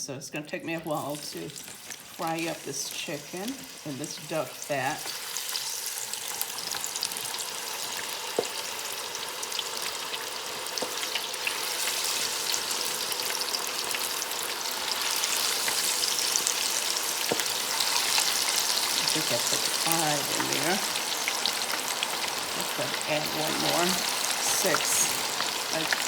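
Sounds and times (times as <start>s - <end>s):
wings deep-frying with crackling sizzle: 0.6s - 26.0s.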